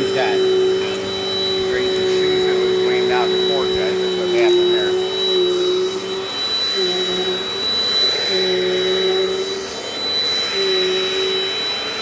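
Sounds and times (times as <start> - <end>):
low hum: 0.0 - 12.0
vacuum cleaner running: 0.0 - 12.0.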